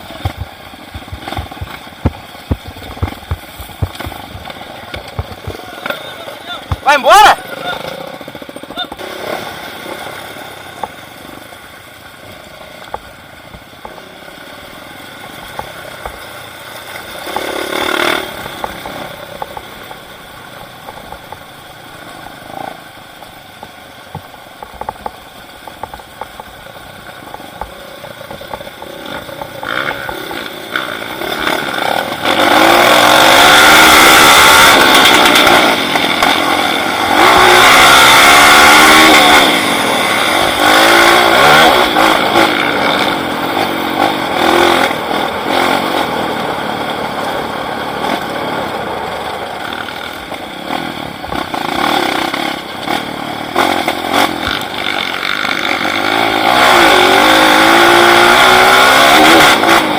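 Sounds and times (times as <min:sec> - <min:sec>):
motorcycle engine revving: 0:00.0 - 0:24.3, 0:25.6 - 0:59.9.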